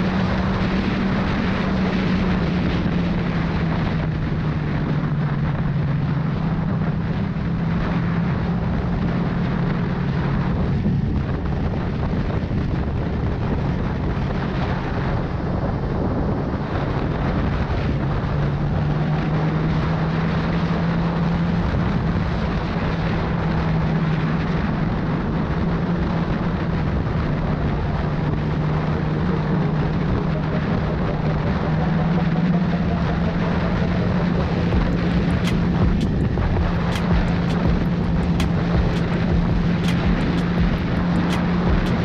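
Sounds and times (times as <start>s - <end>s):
motorcycle engine cruising: 0.0s - 42.0s
wind rush on microphone: 0.0s - 42.0s.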